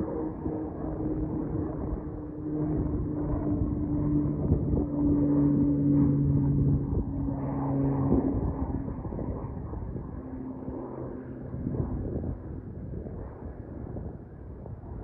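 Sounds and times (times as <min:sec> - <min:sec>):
turboprop engine droning: 0:00.0 - 0:15.0.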